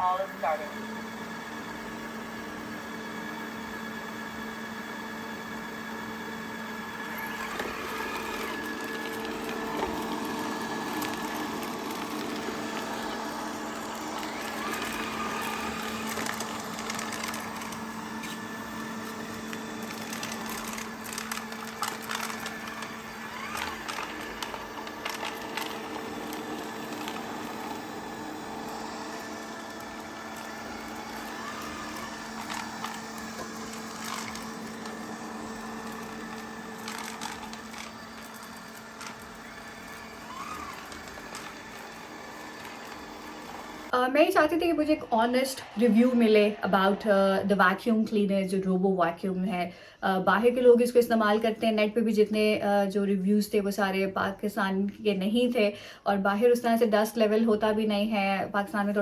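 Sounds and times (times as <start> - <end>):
robot vacuum motor humming: 0.0 - 48.3.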